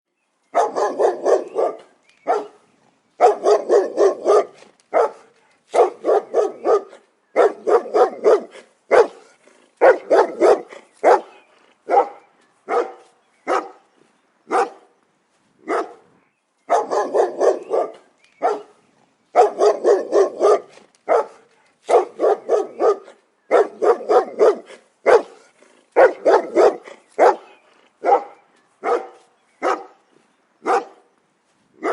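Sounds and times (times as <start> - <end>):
dog barking: 0.6 - 2.6, 3.2 - 13.8, 14.5 - 14.9, 15.7 - 16.0, 16.7 - 18.8, 19.4 - 30.0, 30.6 - 31.1.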